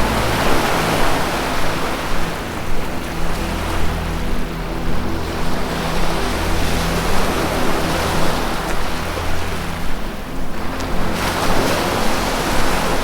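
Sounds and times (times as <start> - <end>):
ambient music drone: 0.0 - 13.0
ocean surf washing: 0.0 - 13.0.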